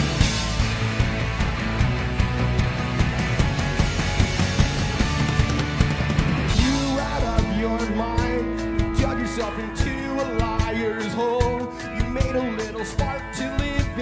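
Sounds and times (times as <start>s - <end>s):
electric guitars: 0.0s - 14.0s
steady drum beat: 0.0s - 14.0s.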